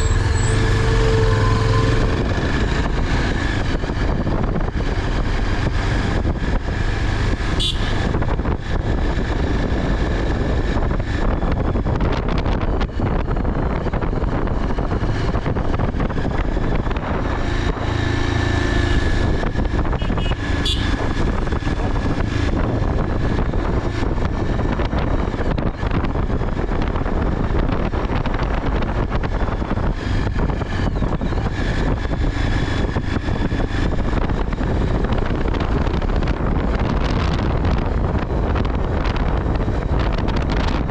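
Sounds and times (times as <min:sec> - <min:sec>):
wind and road noise: 0:00.0 - 0:40.9.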